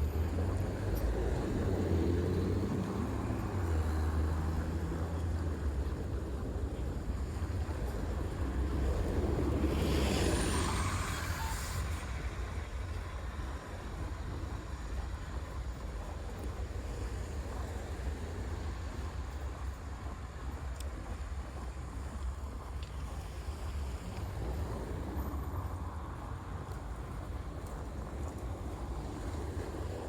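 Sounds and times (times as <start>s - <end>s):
traffic rumble: 0.0s - 30.0s
wind: 0.0s - 30.0s.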